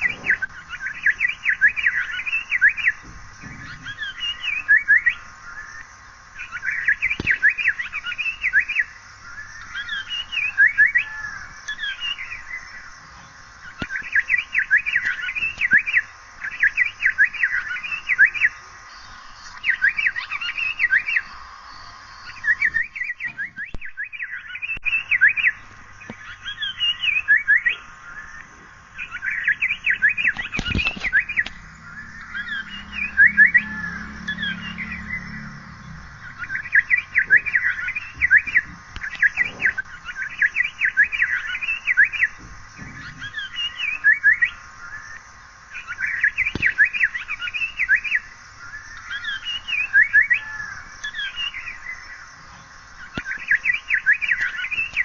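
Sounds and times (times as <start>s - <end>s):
bird calling in sharp notes: 0.0s - 55.0s.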